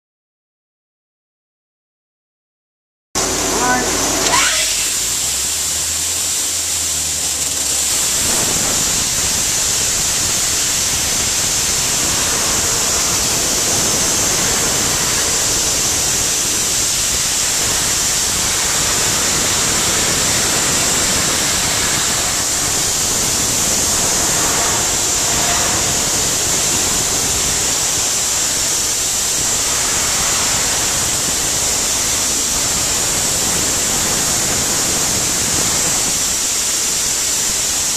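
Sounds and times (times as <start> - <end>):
soda blaster nozzle hissing: 3.2 - 37.9.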